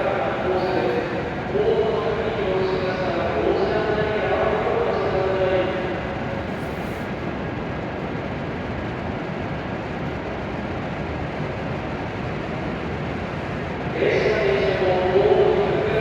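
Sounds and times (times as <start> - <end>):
high-speed train rushing rumble: 0.0 - 16.0.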